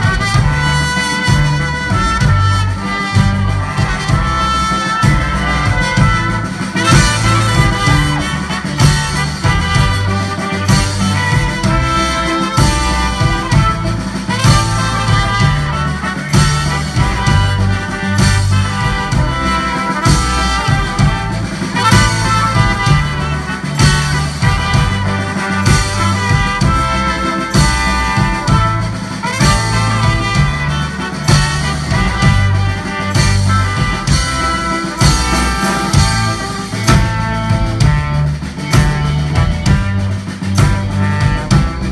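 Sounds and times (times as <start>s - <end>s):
drums: 0.0s - 41.9s
live band playing: 0.0s - 41.9s
trumpets and trombone: 0.0s - 41.9s.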